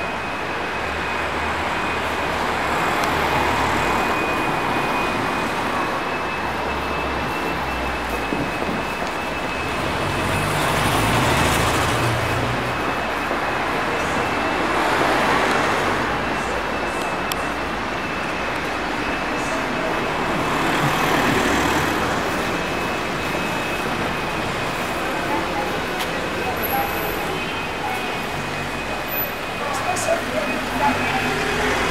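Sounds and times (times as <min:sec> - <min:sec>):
cars passing: 0:00.0 - 0:31.9
road traffic rushing: 0:00.0 - 0:31.9.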